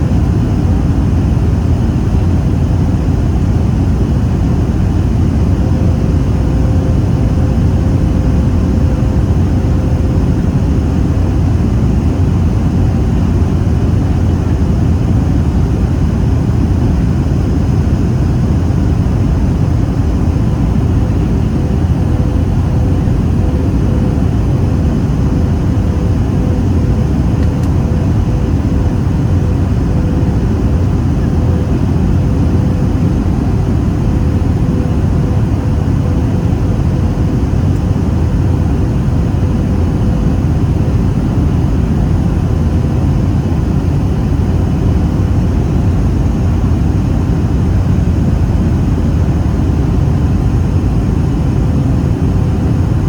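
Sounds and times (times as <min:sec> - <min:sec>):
airplane cabin engine noise: 0:00.0 - 0:53.0
faint steady hum: 0:00.0 - 0:53.0.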